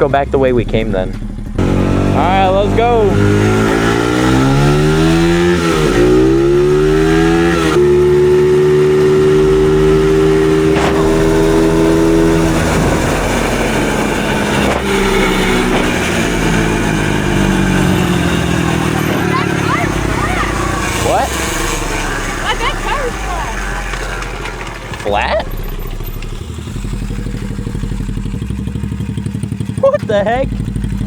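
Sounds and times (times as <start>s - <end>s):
rough rushing noise: 0.0s - 29.0s
dirt bike engine accelerating: 0.0s - 31.0s.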